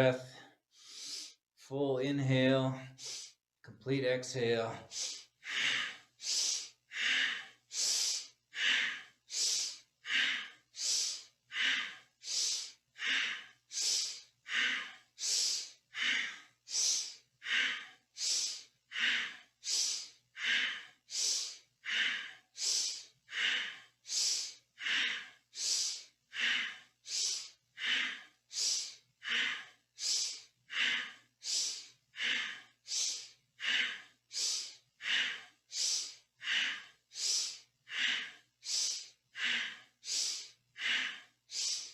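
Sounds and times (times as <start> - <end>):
person breathing deeply: 0.2 - 1.4, 2.9 - 3.4, 4.8 - 41.9.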